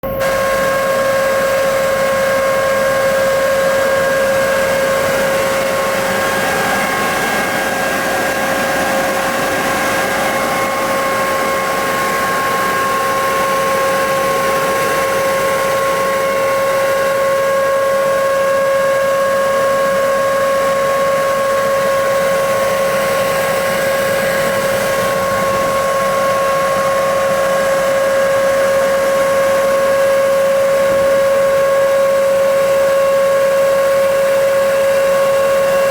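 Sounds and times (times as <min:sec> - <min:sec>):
nut blower whining: 0:00.0 - 0:35.9.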